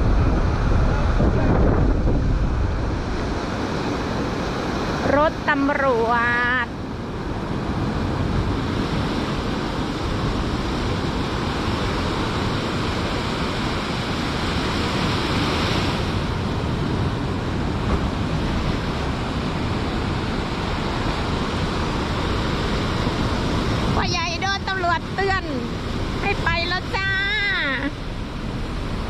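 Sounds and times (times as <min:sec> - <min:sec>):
storm surf breaking on shore: 0:00.0 - 0:29.0
wind buffeting microphone: 0:00.0 - 0:29.0.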